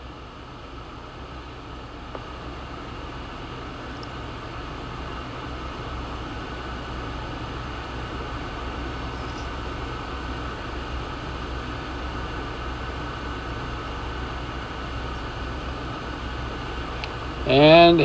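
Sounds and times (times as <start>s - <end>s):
ventilation unit humming: 0.0s - 18.0s.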